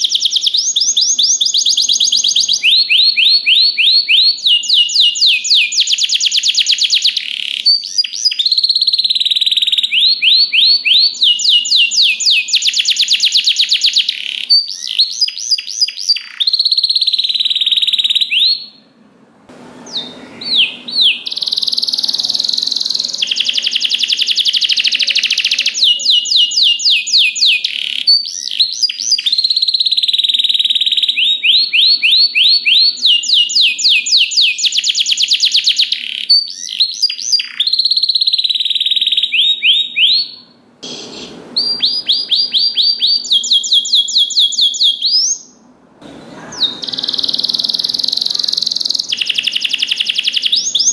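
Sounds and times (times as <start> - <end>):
canary singing trills: 0.0 - 18.9, 19.8 - 45.7, 46.3 - 50.9.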